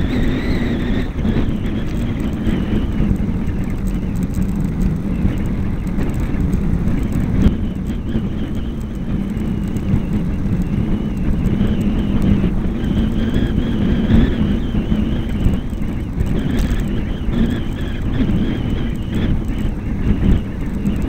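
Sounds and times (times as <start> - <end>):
bike rolling on wet tarmac: 0.0 - 21.0
wind buffeting microphone: 0.0 - 21.0.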